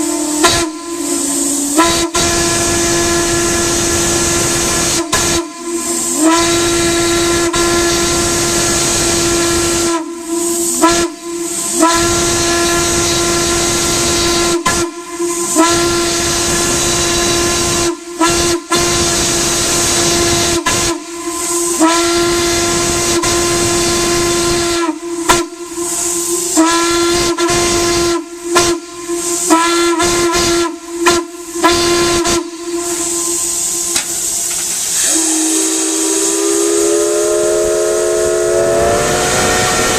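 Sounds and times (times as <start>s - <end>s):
steam hissing: 0.0s - 39.9s
steam whistle blasts: 0.0s - 39.9s.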